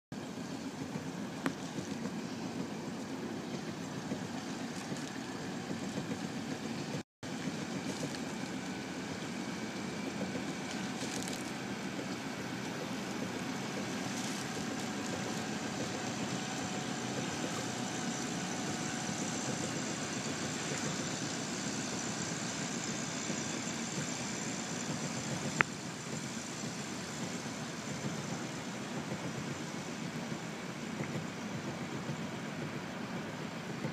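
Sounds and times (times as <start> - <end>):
outboard engine drone: 0.1 - 33.9.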